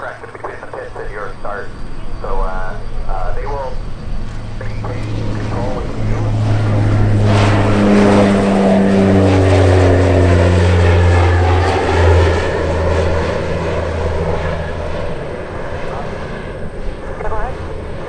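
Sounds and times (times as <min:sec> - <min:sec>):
turboprop plane flying past: 0:00.0 - 0:18.0.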